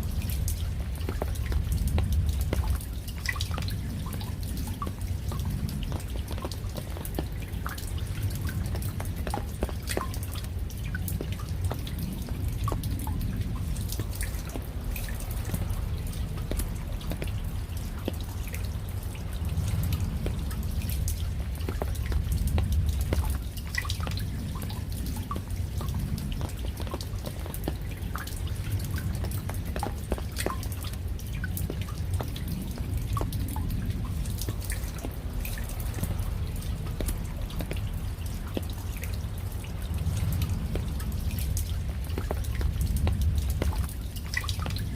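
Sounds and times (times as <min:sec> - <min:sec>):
raindrops dripping and pattering: 0:00.0 - 0:44.9
steady low rumble: 0:00.0 - 0:44.9.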